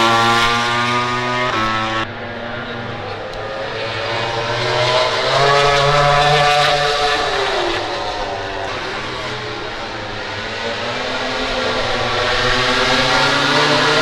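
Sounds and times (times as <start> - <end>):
racing motorcycle passing at speed: 0.0 - 14.0.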